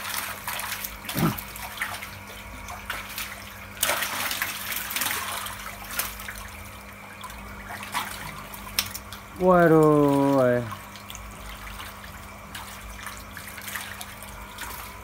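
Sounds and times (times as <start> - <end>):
feet moving in water: 0.0 - 15.0
pond water splashing and sloshing: 0.0 - 15.0.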